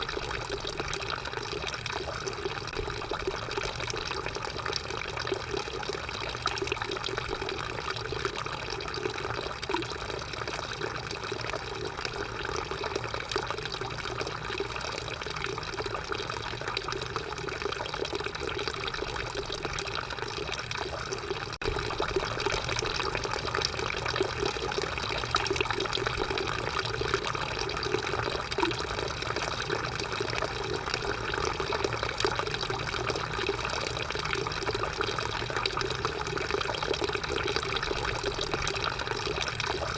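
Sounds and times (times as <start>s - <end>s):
drinking fountain water flowing: 0.0s - 39.9s.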